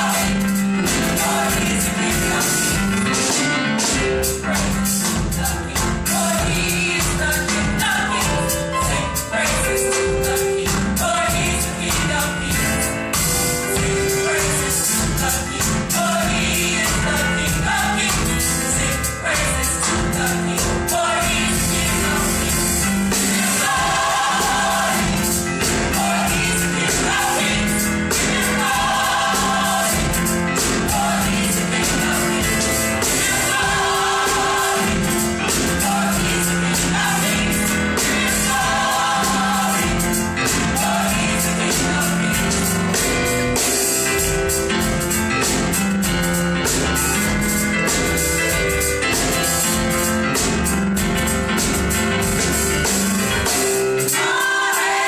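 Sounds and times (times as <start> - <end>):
gospel choir singing: 0.0 - 45.8, 52.2 - 55.0
drum kit: 0.0 - 55.0.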